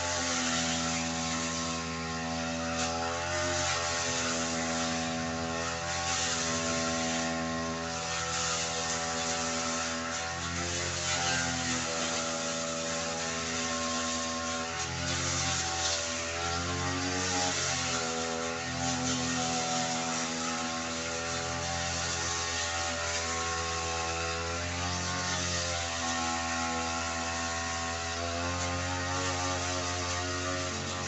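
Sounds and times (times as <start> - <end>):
brush cutter cutting grass: 0.0 - 31.0.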